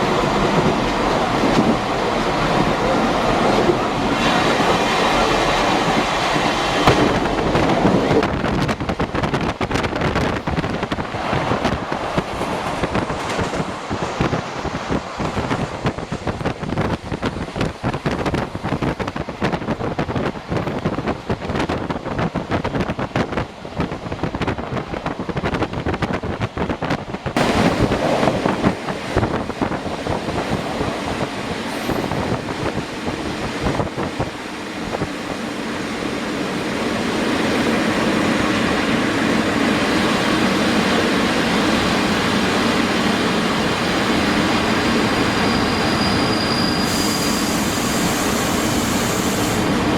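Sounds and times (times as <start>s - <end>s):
passenger train clicking on track: 0.0s - 49.9s.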